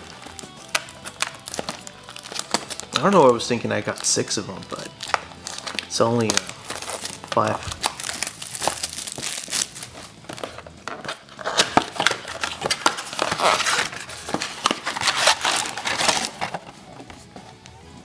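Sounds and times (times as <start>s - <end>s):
cardboard and wrappers crinkling: 0.0s - 17.3s.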